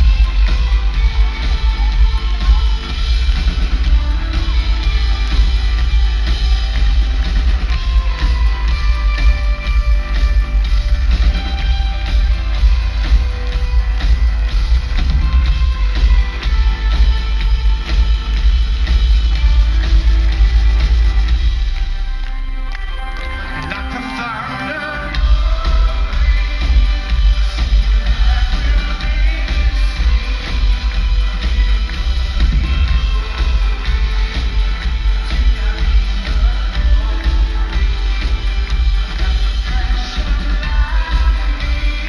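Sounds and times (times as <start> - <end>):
person singing: 0.0 - 21.1, 22.9 - 42.0
drum kit steady beat: 0.0 - 22.2, 25.1 - 42.0
heavy booming bass: 0.0 - 22.2, 25.2 - 42.0
guitars: 0.0 - 42.0.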